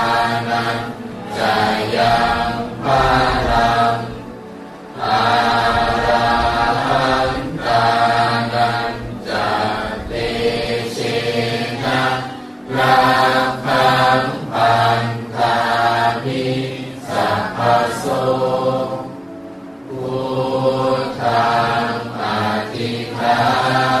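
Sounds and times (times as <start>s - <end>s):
voices chanting: 0.0s - 24.0s.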